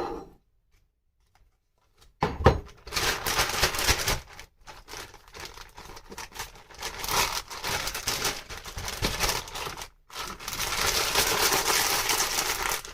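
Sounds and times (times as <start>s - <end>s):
crinkling and scraping: 0.7s - 12.9s.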